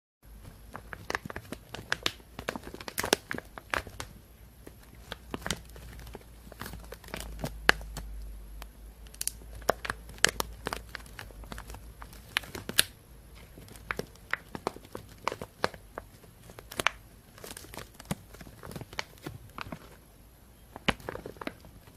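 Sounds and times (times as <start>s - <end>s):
plastic bag crinkling: 0.4s - 8.1s, 9.1s - 21.9s.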